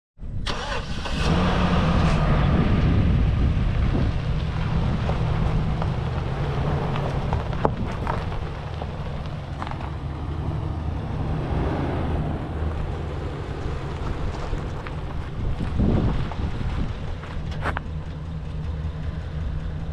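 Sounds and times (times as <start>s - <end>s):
truck engine idling: 0.5s - 19.9s
wind buffeting microphone: 1.6s - 18.3s.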